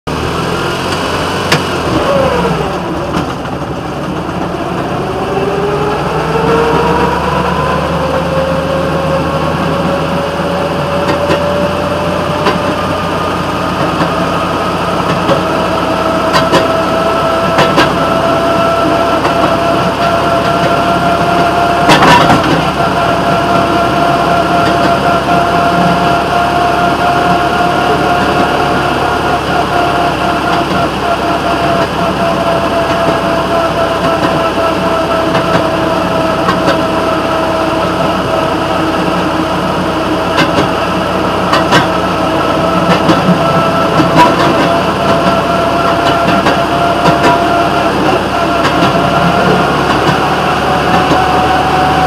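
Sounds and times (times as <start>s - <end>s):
railroad motorcar engine: 0.0s - 52.0s
loud clatter: 0.1s - 52.0s
rising and falling whine: 0.1s - 52.0s.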